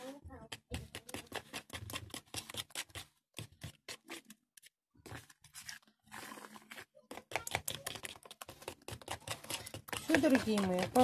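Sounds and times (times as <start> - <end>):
metal spoon scraping plastic bowl: 0.0 - 11.0.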